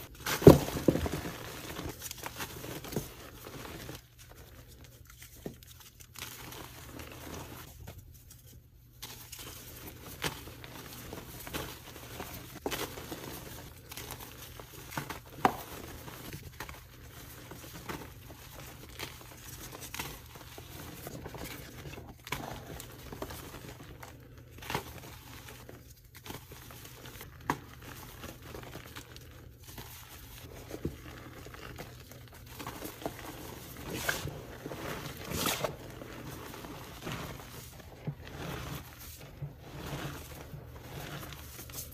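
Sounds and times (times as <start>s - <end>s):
chalk crunching and crumbling: 0.0s - 41.9s.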